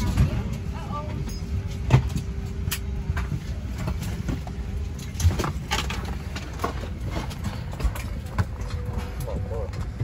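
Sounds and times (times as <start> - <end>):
low aircraft cabin hum: 0.0 - 10.0.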